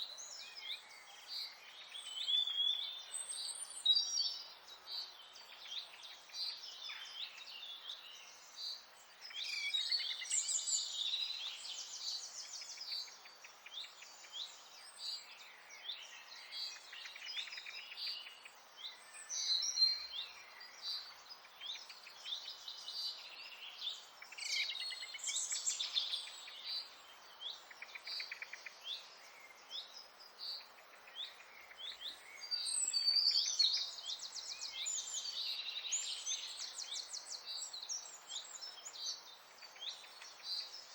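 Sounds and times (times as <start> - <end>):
chorus of songbirds: 0.0 - 40.9.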